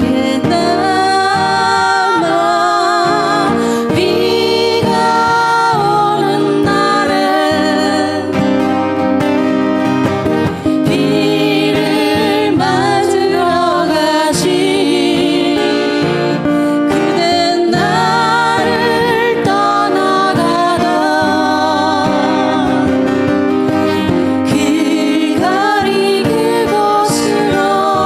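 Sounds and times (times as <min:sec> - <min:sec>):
acoustic guitar ballad: 0:00.0 - 0:28.0.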